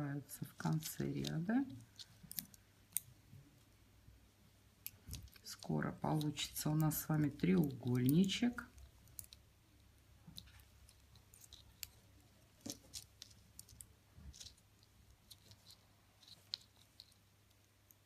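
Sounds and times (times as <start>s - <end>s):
knitting needles clicking: 0.6s - 3.1s, 4.8s - 18.0s.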